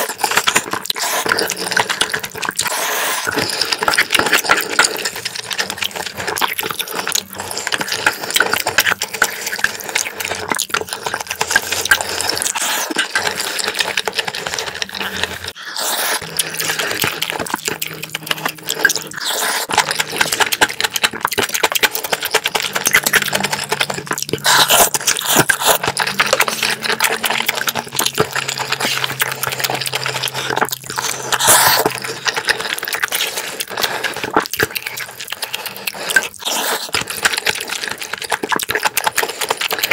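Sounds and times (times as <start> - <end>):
clicking mouth sounds: 0.0 - 39.9
wet chewing and slurping: 0.0 - 39.9.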